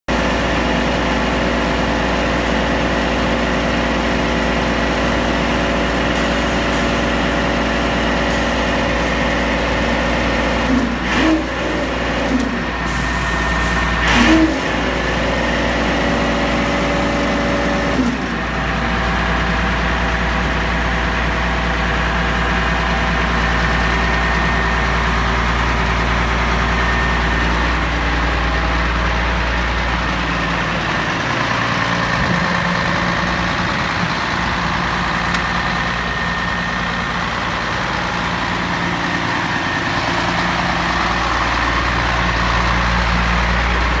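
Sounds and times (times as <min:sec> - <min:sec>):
diesel engine idling: 0:00.1 - 0:44.0.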